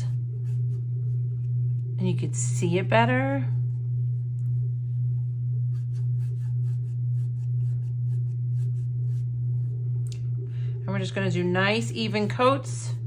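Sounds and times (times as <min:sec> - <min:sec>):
low hum: 0:00.0 - 0:13.0
paintbrush scratching strokes: 0:00.0 - 0:13.0.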